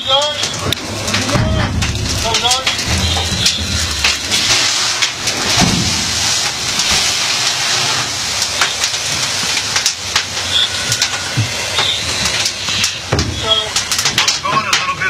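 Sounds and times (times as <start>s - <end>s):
large fire burning: 0.0s - 15.0s.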